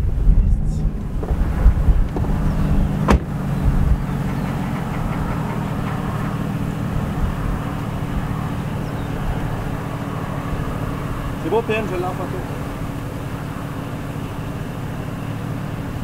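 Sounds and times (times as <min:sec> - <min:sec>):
wind buffeting microphone: 0:00.0 - 0:13.7
vehicle engine idling: 0:00.0 - 0:16.0.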